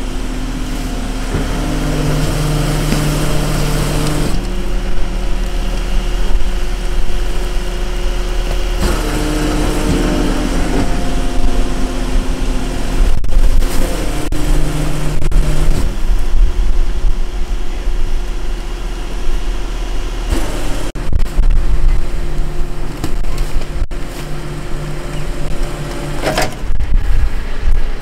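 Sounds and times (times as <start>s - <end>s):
garbage truck hydraulics running: 0.0s - 28.0s.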